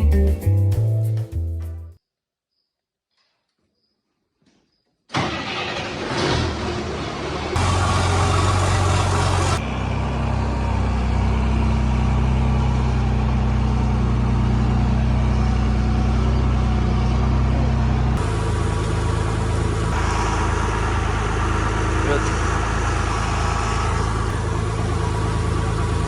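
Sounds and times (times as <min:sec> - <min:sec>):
tractor engine running: 0:05.1 - 0:26.0.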